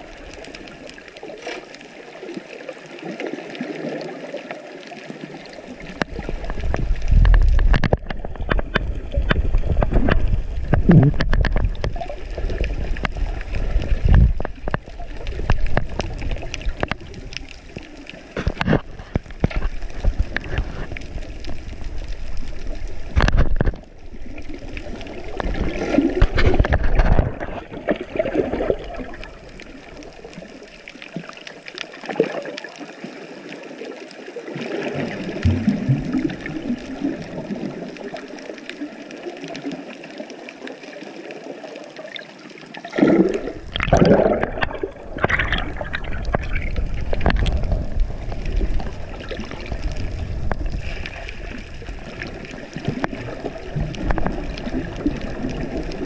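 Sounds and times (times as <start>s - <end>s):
bubbling: 0.0s - 56.0s
rush of water: 0.0s - 56.0s
underwater water sloshing: 0.0s - 56.0s.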